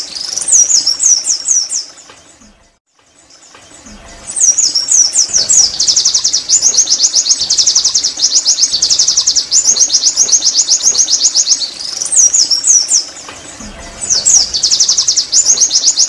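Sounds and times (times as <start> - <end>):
bird singing high sliding notes: 2.6 - 16.0.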